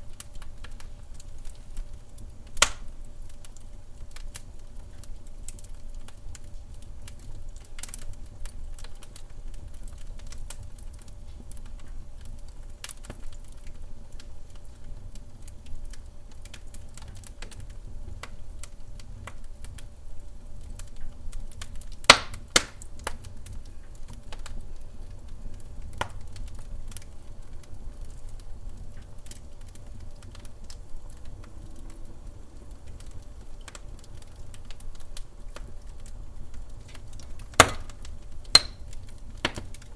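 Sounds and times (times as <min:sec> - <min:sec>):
loud fire pops: 0:00.0 - 0:39.9
low rumble of flames: 0:00.0 - 0:39.9
wood fire crackling: 0:00.0 - 0:39.9.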